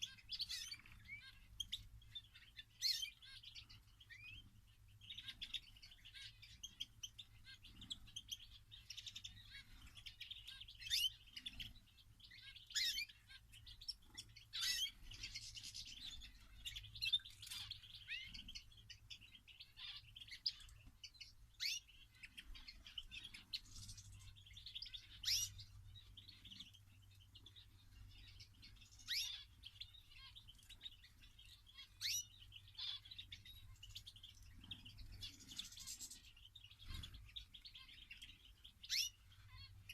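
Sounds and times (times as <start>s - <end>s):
sharp bird calls: 0.0s - 39.9s
small birds chirping: 0.0s - 39.9s.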